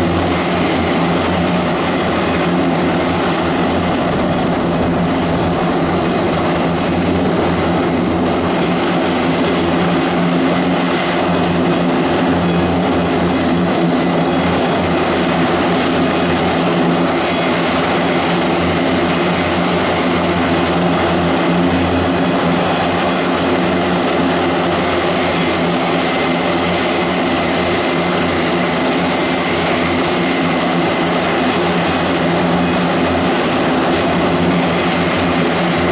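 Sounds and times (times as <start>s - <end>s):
turboprop engines droning: 0.0s - 35.9s.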